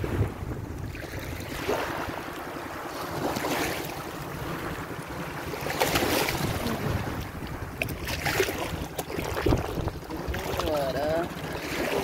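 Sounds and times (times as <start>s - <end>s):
small waves lapping: 0.0s - 12.0s
soft surf: 0.0s - 12.0s
wind buffeting microphone: 0.0s - 12.0s.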